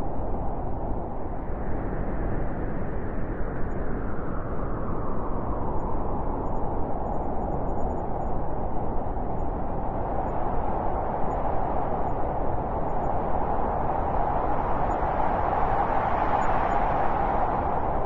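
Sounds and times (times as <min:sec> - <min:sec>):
blizzard wind blowing hard: 0:00.0 - 0:18.0.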